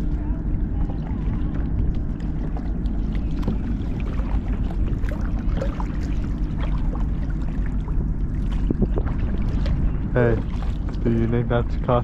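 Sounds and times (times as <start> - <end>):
low rumble: 0.0 - 12.0
water lapping around kayak: 0.0 - 12.0.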